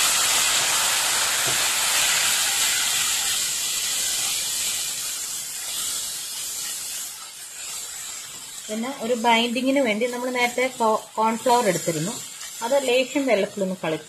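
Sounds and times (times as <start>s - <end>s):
sauce sizzling in a pan: 0.0s - 14.0s.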